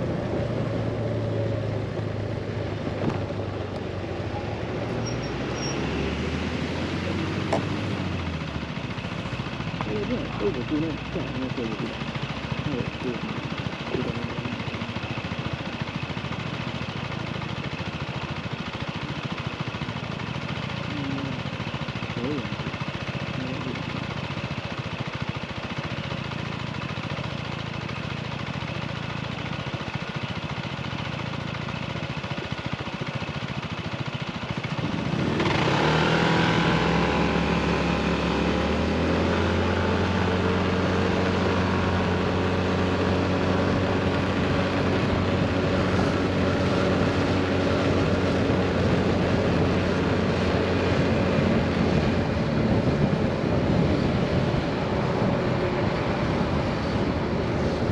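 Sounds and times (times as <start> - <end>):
road noise: 0.0 - 57.9
scooter engine: 0.0 - 57.9.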